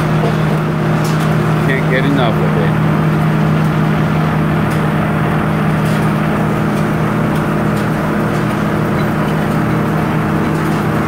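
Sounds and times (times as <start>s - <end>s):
sawmill machinery hum: 0.0s - 11.0s.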